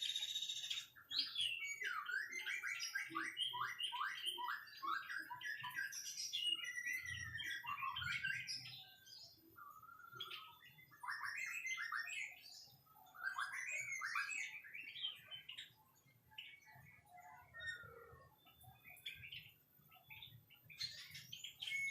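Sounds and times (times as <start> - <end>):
bird singing whistles and chirps: 0.0 - 21.9.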